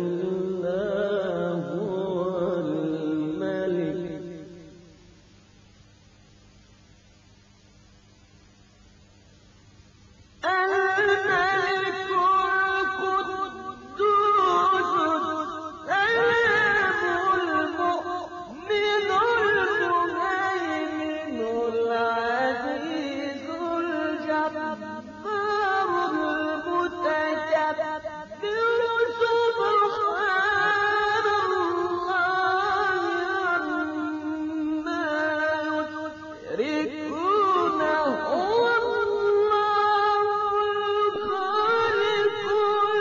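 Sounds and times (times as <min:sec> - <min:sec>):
man chanting melodically: 0:00.0 - 0:04.9, 0:10.4 - 0:43.0.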